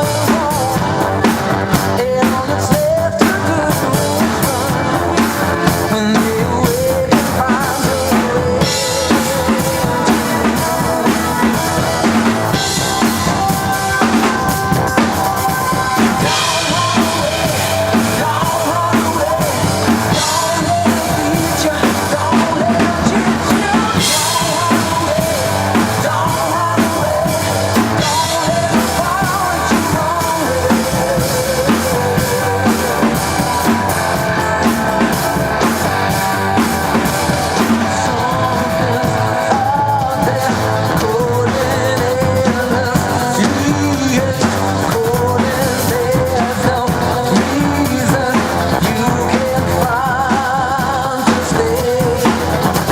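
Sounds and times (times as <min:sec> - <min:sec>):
rock song with drums and bass: 0:00.0 - 0:52.9.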